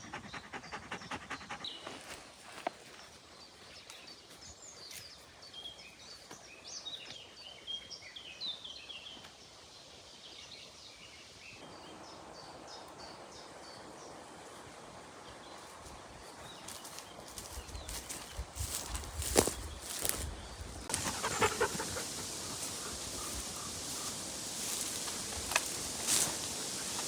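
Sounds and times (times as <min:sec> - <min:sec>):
songbirds chirping and trilling: 0:00.0 - 0:27.0
steady outdoor hiss: 0:00.0 - 0:27.0.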